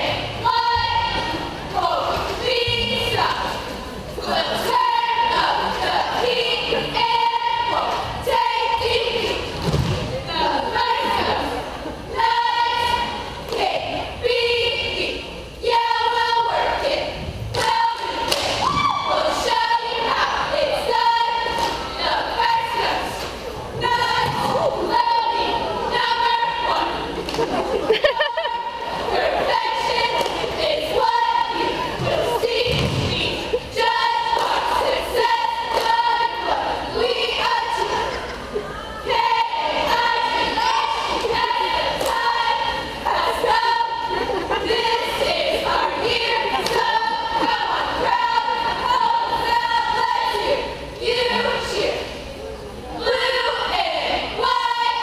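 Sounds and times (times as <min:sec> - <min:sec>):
cheerleaders chanting in unison: 0:00.0 - 0:55.0.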